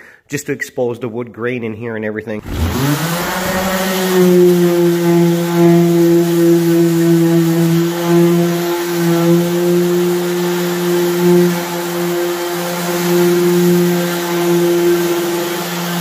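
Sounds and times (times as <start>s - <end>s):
orbital sander sanding wood: 2.4s - 16.0s.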